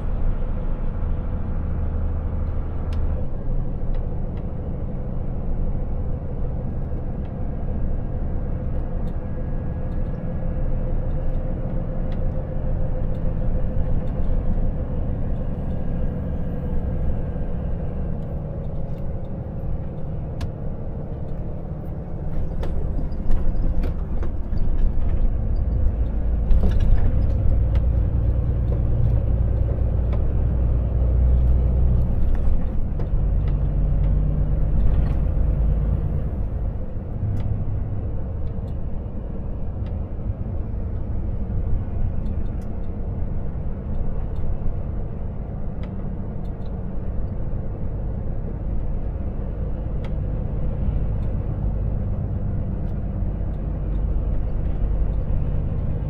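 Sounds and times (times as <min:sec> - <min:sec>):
truck cab rumble: 0:00.0 - 0:56.0.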